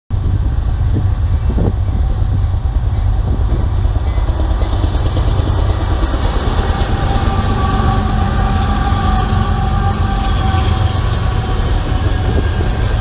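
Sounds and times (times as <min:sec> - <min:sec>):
train passing rumble: 0:00.1 - 0:13.0.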